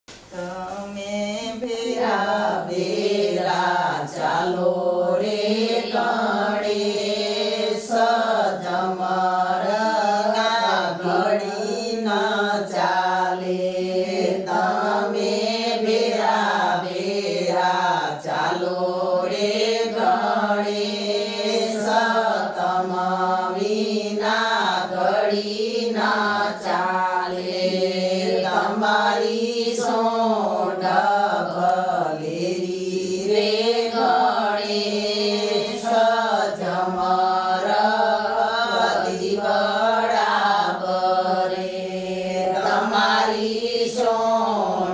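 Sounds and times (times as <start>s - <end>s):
women singing unaccompanied: 0.1s - 44.9s.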